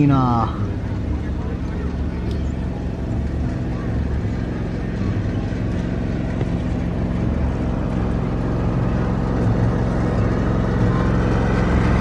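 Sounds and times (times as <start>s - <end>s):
airplane engine idling: 0.0s - 12.0s.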